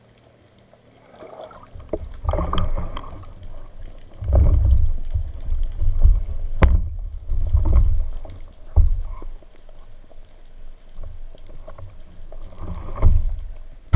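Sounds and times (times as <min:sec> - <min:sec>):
underwater water surges: 0:00.0 - 0:13.9.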